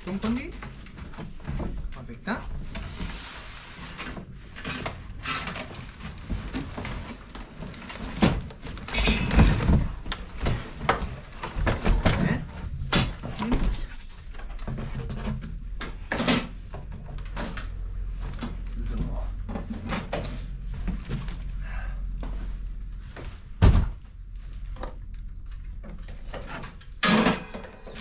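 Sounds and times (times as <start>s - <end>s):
knocks and clatter of handling: 0.0s - 28.0s.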